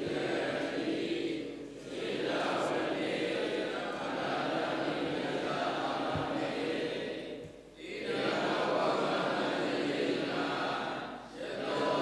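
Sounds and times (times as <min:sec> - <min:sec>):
voices chanting in unison: 0:00.0 - 0:12.0.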